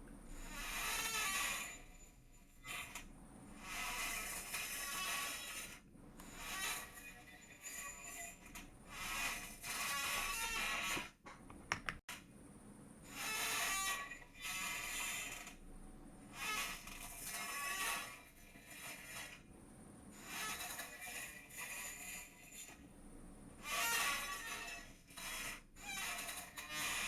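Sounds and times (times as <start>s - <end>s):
chair creaking and squeaking: 0.3s - 12.0s, 13.1s - 15.6s, 16.4s - 19.4s, 20.2s - 22.7s, 23.6s - 27.0s.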